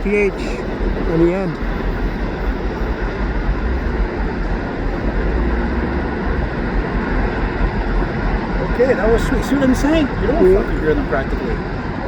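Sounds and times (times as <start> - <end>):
passenger train rumbling past: 0.0 - 12.0.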